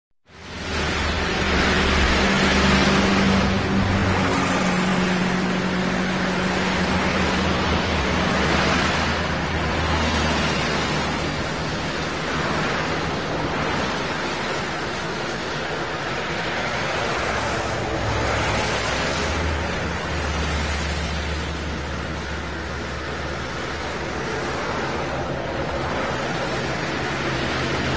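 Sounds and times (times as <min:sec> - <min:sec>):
low engine drone: 0:00.3 - 0:27.9
tyre and engine noise: 0:00.3 - 0:27.9
vehicles passing: 0:00.3 - 0:27.9.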